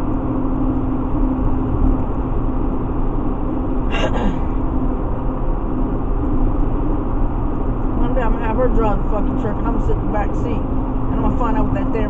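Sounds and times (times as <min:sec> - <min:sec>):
road and tire noise: 0:00.0 - 0:12.0.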